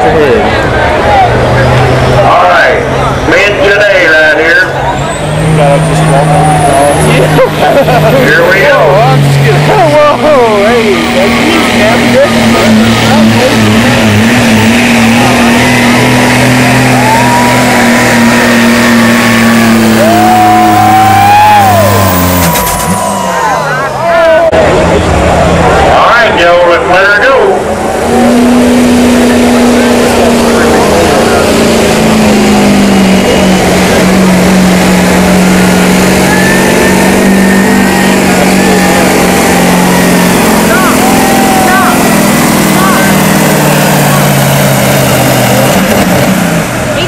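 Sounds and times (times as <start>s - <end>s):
diesel truck engine under load: 0.0s - 47.0s.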